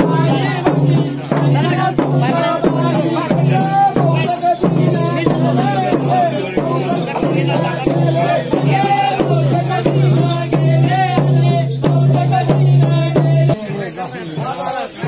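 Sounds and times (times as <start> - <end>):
dhol drum beating: 0.0 - 15.0
jingling bells: 0.0 - 15.0.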